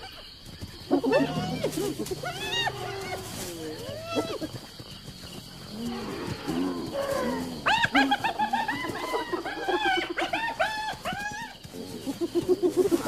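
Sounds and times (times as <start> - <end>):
low arching animal calls: 0.8 - 4.7, 5.7 - 13.0
high arching animal cries: 0.9 - 4.6, 5.8 - 13.0.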